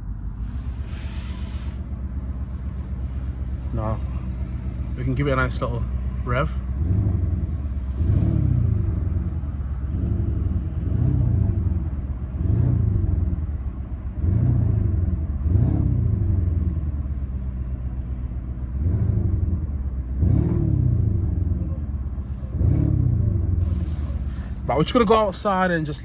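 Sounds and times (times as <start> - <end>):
car engine idling: 0.0 - 26.0
car engine revving: 0.0 - 26.0.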